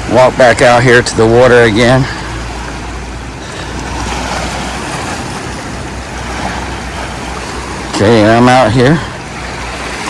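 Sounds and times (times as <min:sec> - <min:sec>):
sea surf washing on shore: 0:00.0 - 0:10.0.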